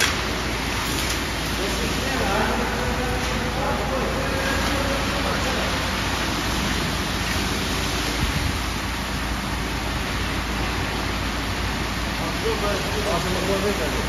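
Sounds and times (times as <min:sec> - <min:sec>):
truck engine hum: 0:00.0 - 0:14.0
wet concrete pouring: 0:00.0 - 0:14.0.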